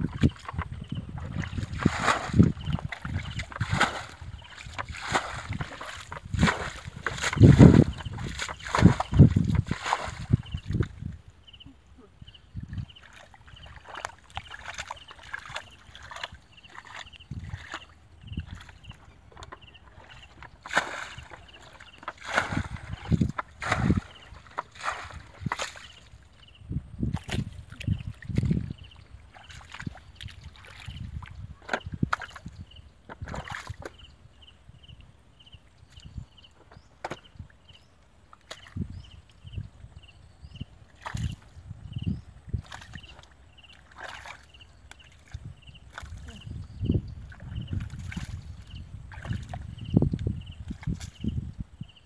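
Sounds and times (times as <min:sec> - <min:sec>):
water splashing and sloshing: 0:00.0 - 0:11.6, 0:12.3 - 0:51.9.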